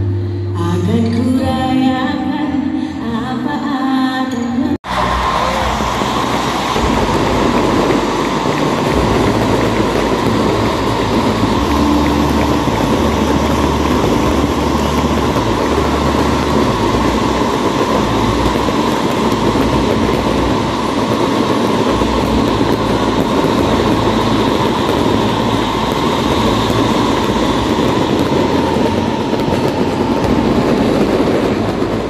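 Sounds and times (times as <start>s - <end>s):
fireworks rushing roar: 4.8s - 32.0s.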